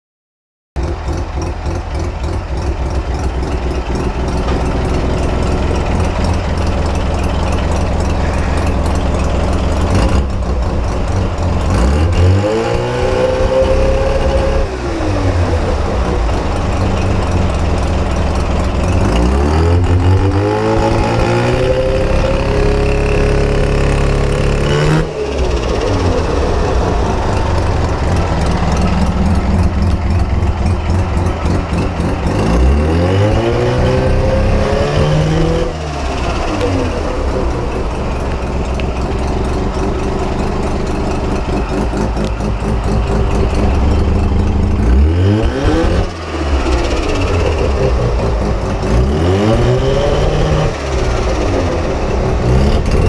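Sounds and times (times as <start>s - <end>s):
rotary engine idling and revving: 0.8s - 53.0s.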